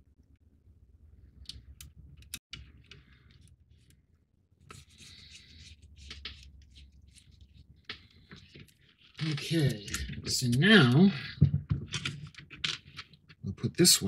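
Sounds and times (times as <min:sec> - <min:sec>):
plastic parts rubbing and scraping: 0:02.2 - 0:13.5.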